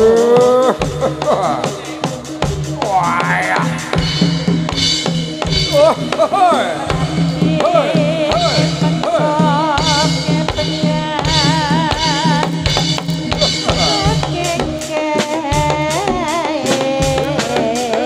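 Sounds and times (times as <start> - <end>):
drums in a steady rhythm: 0.0 - 18.0.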